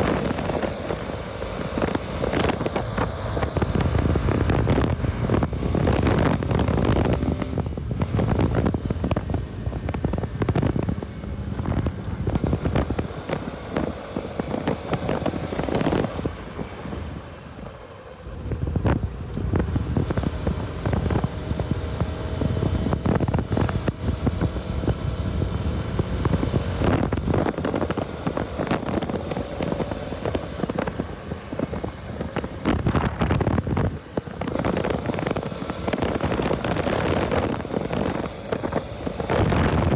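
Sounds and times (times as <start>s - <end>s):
motorcycle engine and road noise: 0.0s - 39.9s
wind buffeting microphone: 0.0s - 39.9s.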